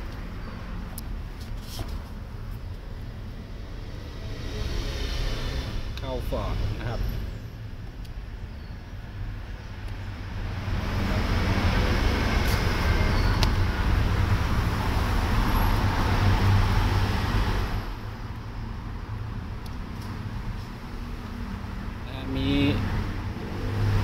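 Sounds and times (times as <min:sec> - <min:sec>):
road traffic rush: 0:00.0 - 0:24.0.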